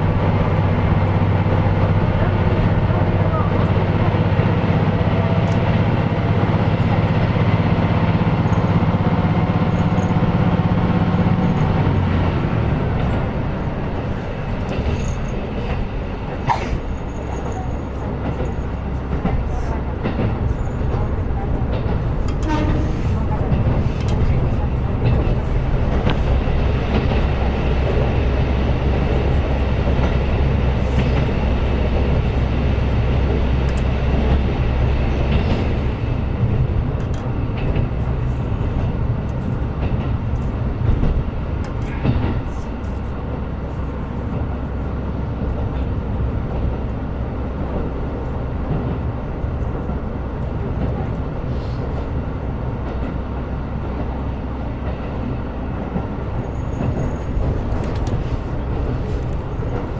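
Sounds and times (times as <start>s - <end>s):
railcar engine drone: 0.0s - 59.9s
wheel and rail noise: 0.0s - 59.9s.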